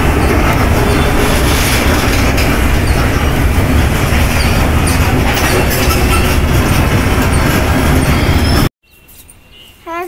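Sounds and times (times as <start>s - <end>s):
train wheels rumbling on rails: 0.0s - 8.7s.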